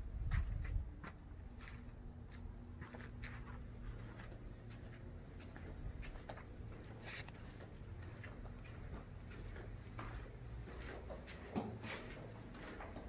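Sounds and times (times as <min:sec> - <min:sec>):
low steady hum: 0:00.0 - 0:13.0
handling scuffs and clicks: 0:01.6 - 0:13.0.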